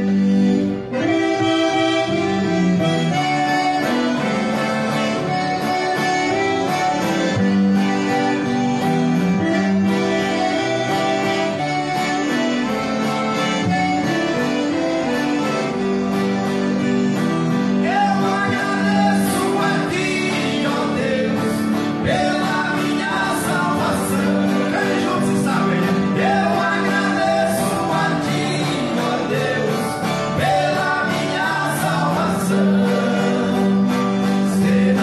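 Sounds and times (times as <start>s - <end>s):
accordion chords: 0.0s - 35.0s
acoustic guitar plucking: 0.0s - 35.0s.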